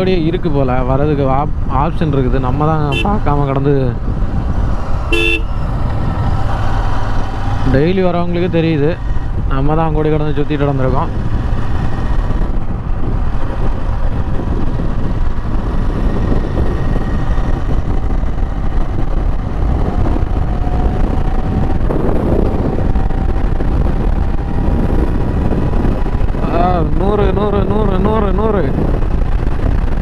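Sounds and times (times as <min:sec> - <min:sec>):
wind rushing over microphone: 0:00.0 - 0:30.0
motorcycle engine running: 0:04.0 - 0:30.0.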